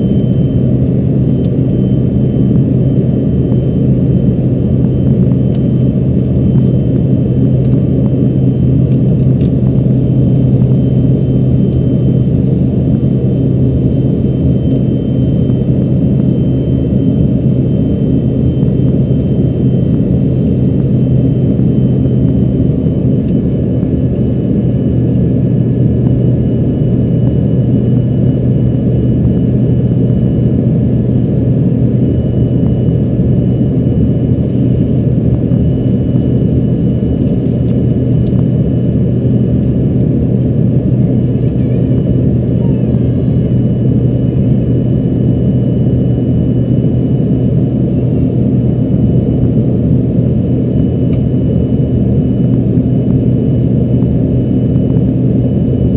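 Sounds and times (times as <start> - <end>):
faint high steady whines: 0.0 - 55.9
jet cabin engine rush: 0.0 - 55.9.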